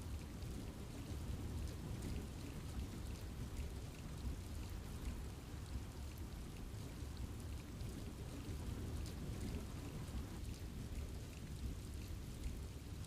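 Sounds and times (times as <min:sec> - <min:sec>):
steady rain in forest: 0:00.0 - 0:13.0.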